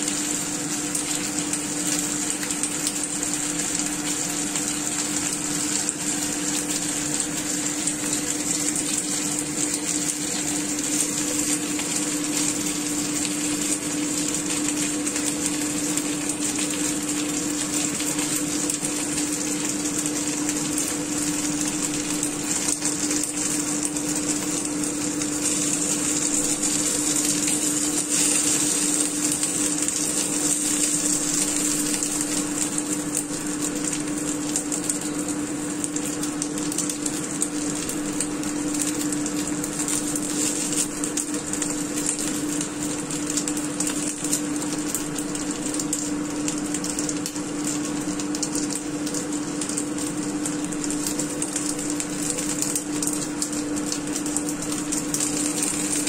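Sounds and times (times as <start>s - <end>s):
dumplings sizzling in oil: 0.0s - 56.0s.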